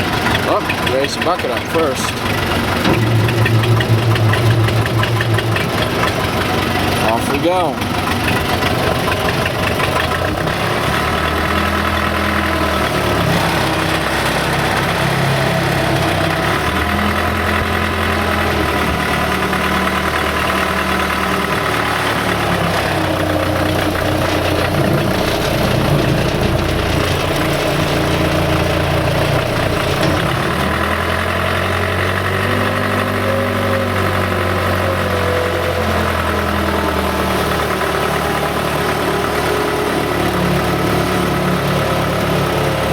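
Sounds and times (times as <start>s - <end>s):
backhoe diesel engine driving: 0.0s - 42.9s.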